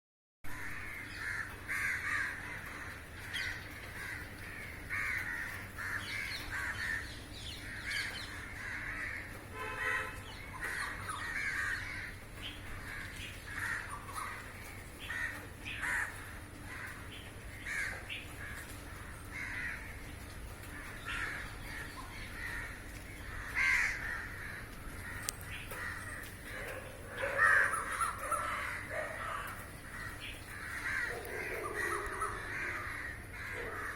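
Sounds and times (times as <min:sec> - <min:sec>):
crows cawing: 0:00.5 - 0:33.9.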